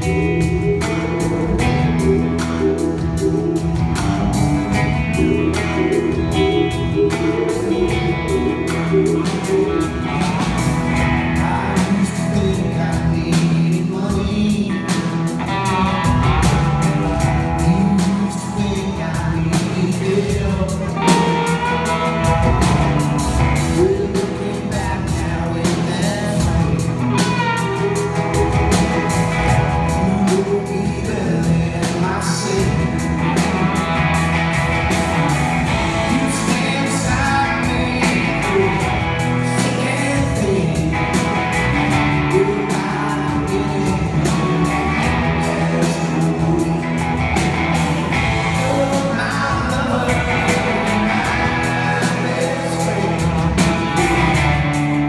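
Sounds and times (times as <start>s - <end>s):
drums: 0.0s - 55.0s
electric guitar: 0.0s - 55.0s
man singing rock song: 0.0s - 55.0s.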